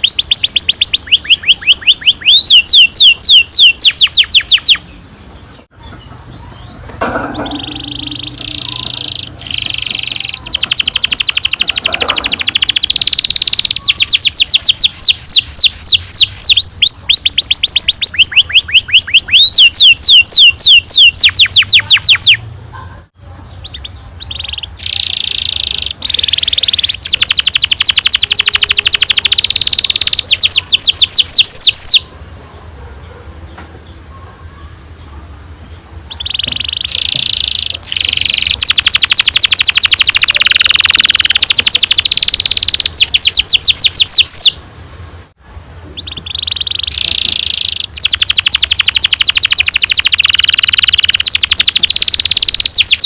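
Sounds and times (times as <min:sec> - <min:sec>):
canary singing trills: 0:00.0 - 0:32.1, 0:32.8 - 0:44.6, 0:45.9 - 0:53.0.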